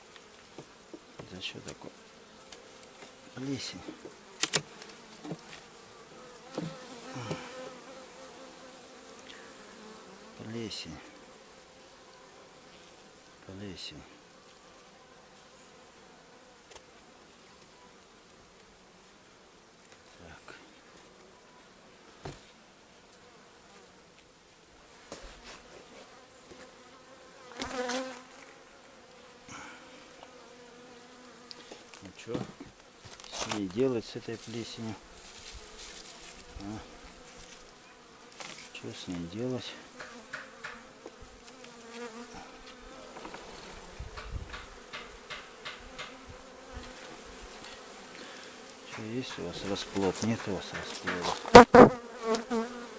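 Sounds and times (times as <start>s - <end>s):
bee buzzing close by: 0.0s - 19.7s, 20.8s - 52.9s
bees humming in a hive: 0.0s - 34.0s, 34.6s - 52.9s.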